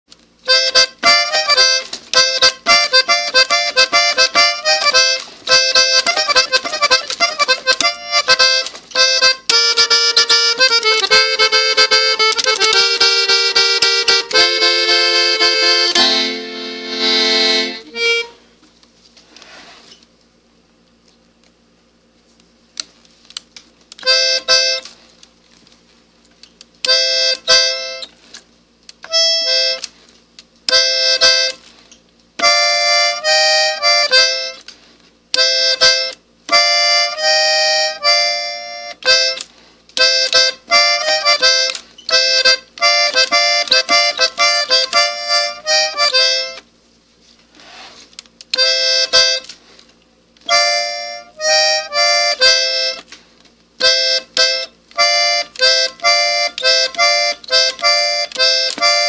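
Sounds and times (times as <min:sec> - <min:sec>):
button accordion melody: 0:00.4 - 0:18.7, 0:24.0 - 0:25.1, 0:26.8 - 0:28.4, 0:29.0 - 0:30.0, 0:30.7 - 0:31.8, 0:32.4 - 0:46.8, 0:47.5 - 0:49.8, 0:50.4 - 0:53.2, 0:53.8 - 0:59.0.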